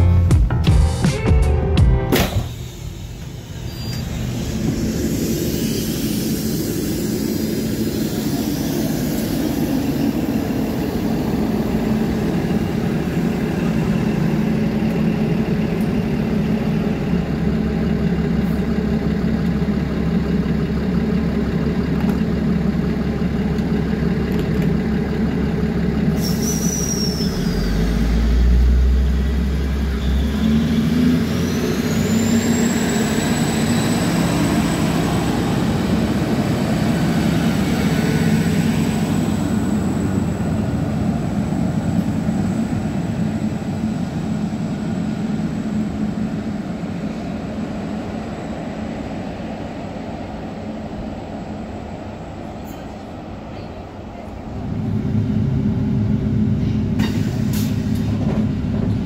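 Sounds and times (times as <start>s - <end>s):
diesel railcar engine running: 0.0s - 59.0s
rising whine: 1.7s - 52.6s.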